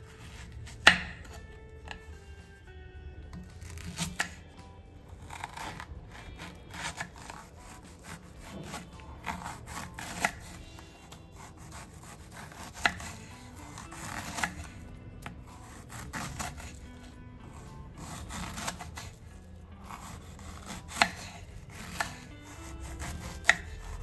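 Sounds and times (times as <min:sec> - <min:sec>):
soft background music: 0:00.0 - 0:24.0
knife chopping on wooden board: 0:00.2 - 0:02.1, 0:03.3 - 0:04.4, 0:05.2 - 0:16.8, 0:17.5 - 0:19.2, 0:19.8 - 0:24.0.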